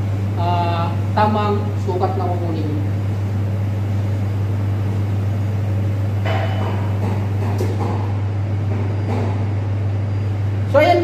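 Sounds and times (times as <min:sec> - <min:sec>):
espresso machine pump humming: 0:00.0 - 0:10.6.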